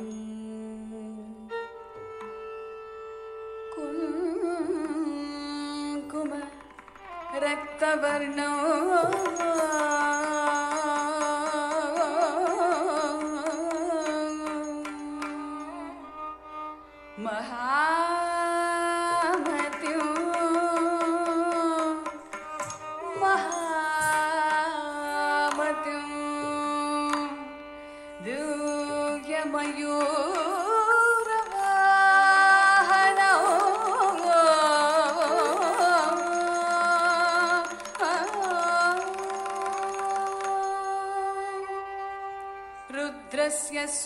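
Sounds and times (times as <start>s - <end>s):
percussion strokes: 3.7s - 16.5s, 18.3s - 43.1s.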